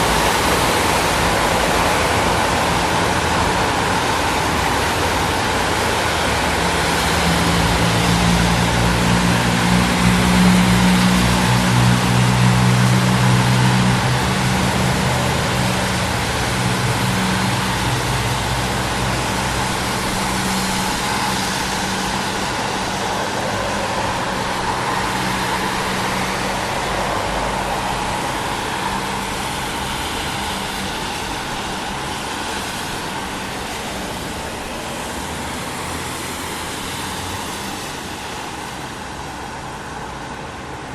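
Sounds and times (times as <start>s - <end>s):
tyres hissing on wet road: 0.0s - 40.9s.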